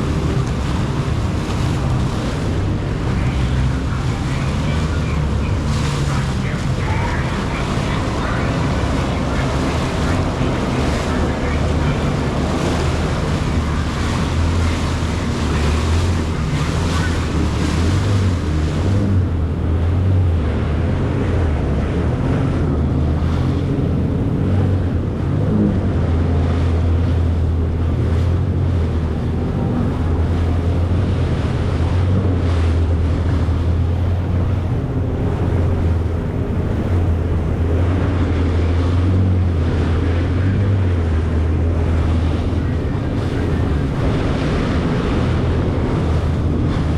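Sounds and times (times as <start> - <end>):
jet ski engine drone: 0.0 - 46.9
rushing water: 0.0 - 46.9
wind buffeting microphone: 0.0 - 46.9.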